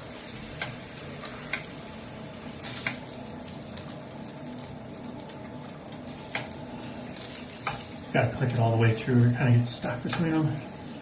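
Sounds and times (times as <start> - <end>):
shower head spraying water: 0.0 - 11.0.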